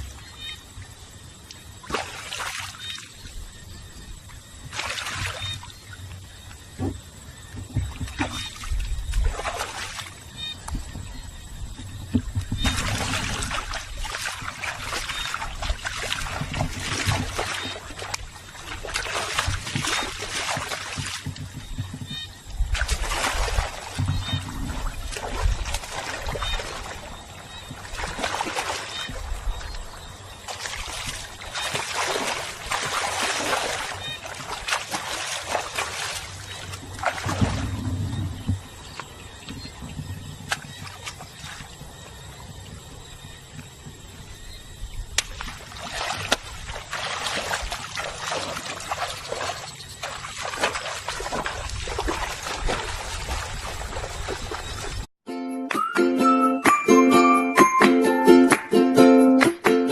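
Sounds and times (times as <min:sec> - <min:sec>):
water sloshing and splashing: 0:00.0 - 0:55.1.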